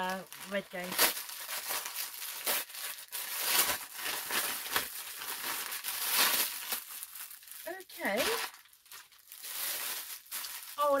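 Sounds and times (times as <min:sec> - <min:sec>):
wrapping paper tearing and crumpling: 0:00.0 - 0:11.0.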